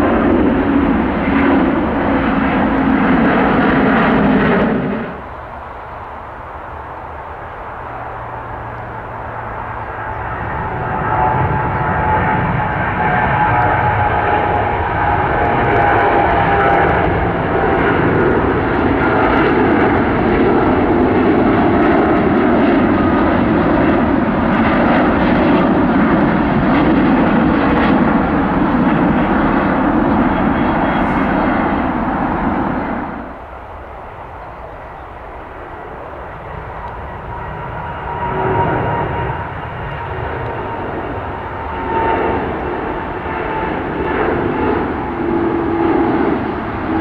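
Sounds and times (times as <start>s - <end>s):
jet engines roaring at take-off: 0.0s - 47.0s.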